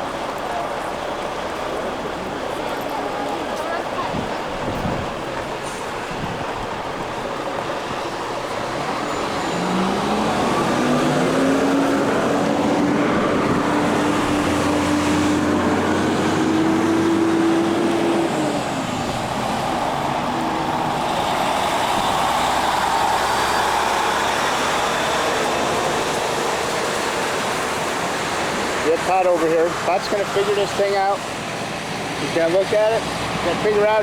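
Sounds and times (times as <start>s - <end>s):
traffic noise: 0.0s - 34.0s
vehicle engine passing: 3.9s - 34.0s.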